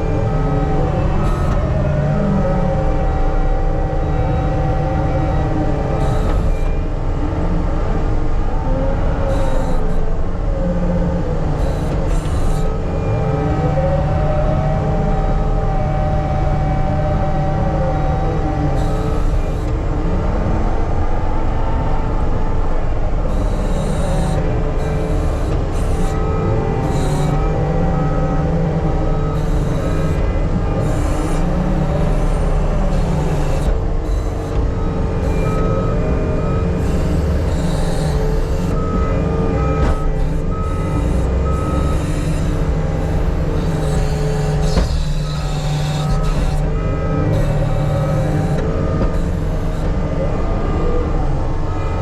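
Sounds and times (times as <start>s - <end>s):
heavy machine engine running: 0.0s - 52.0s.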